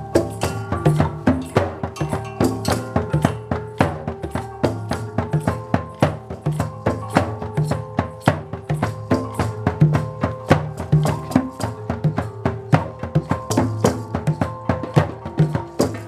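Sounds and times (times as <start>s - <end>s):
hand-played percussion strikes: 0.0s - 16.0s
ringing pitched tones: 0.0s - 16.0s.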